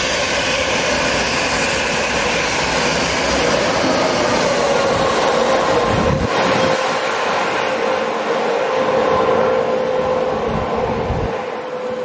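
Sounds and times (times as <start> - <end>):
train passing: 0.0 - 12.0.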